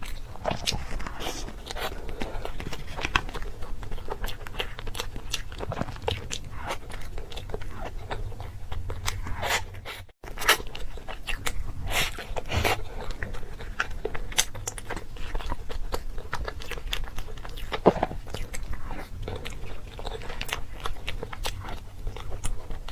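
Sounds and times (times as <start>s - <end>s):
crunchy bites and chewing: 0.0s - 22.9s.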